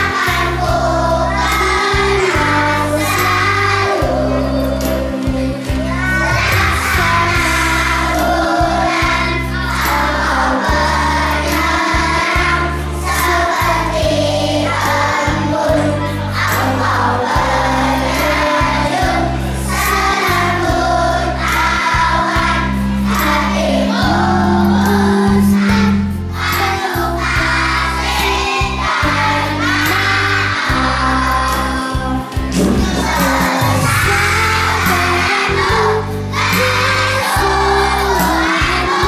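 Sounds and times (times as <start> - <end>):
backing music with steady beat: 0.0 - 39.0
children singing: 0.0 - 39.0.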